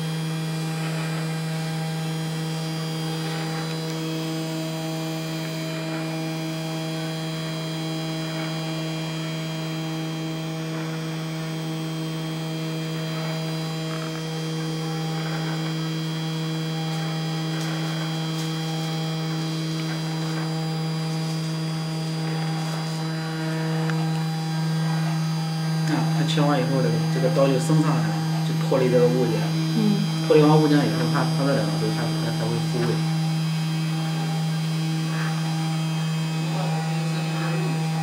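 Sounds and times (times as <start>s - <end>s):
spindle motor humming: 0.0s - 38.0s.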